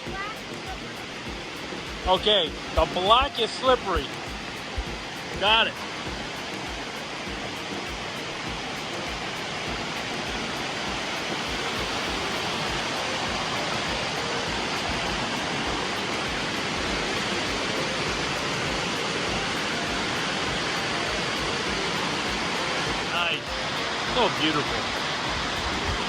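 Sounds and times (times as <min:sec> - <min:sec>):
waterfall rushing over rocks: 0:00.0 - 0:26.0.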